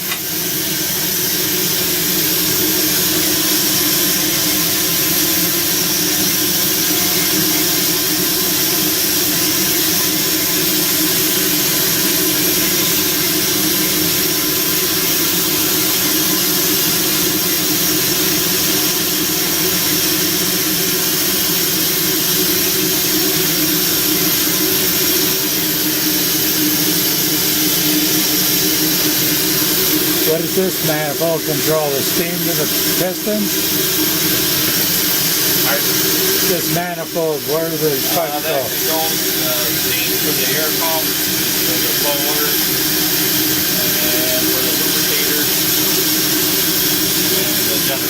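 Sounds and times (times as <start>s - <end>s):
steam hissing: 0.0s - 48.0s.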